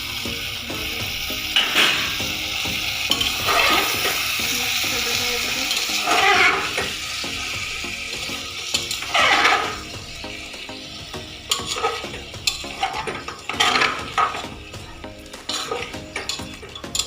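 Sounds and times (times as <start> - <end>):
curry sizzling in a pot: 0.0 - 17.0
spoon scraping a pot: 1.5 - 10.4, 11.5 - 14.8, 15.4 - 17.0.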